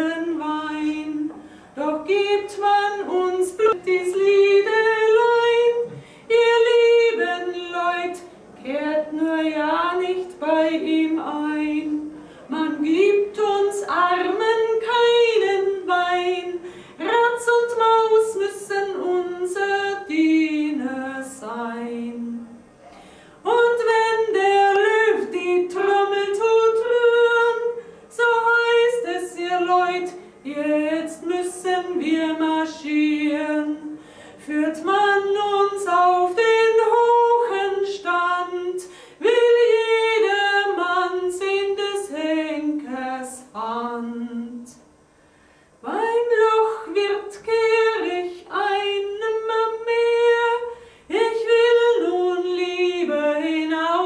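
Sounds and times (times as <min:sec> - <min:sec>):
woman singing: 0:00.0 - 0:22.5, 0:23.4 - 0:44.8, 0:45.8 - 0:54.0.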